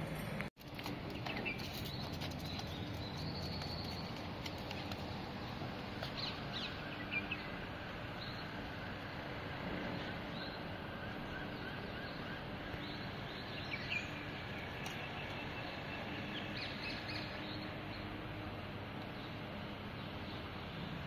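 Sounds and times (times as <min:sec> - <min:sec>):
city street hum: 0:00.0 - 0:21.0
birds chirping: 0:00.8 - 0:21.0.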